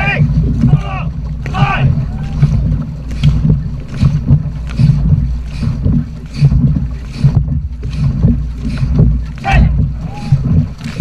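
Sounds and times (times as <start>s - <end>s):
paddles splashing in water: 0.0s - 11.0s
rushing water rumble: 0.0s - 11.0s.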